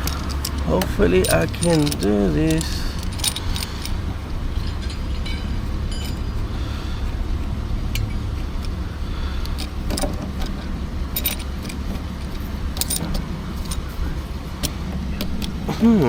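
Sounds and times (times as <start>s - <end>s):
metal tools clinking: 0.0s - 16.0s
steady low rumble: 0.0s - 16.0s.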